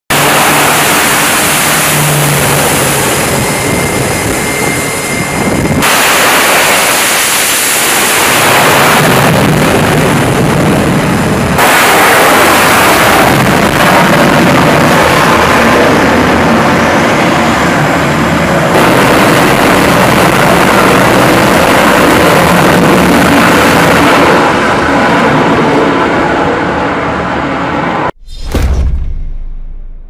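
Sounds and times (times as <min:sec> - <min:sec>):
jet engines roaring: 0:00.1 - 0:28.2
turboprop engines running: 0:00.1 - 0:28.2.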